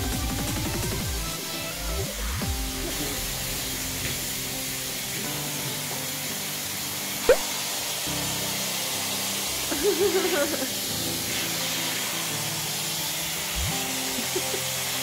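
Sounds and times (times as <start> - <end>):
background music: 0.0 - 15.0
pet blow dryer blowing: 0.1 - 15.0.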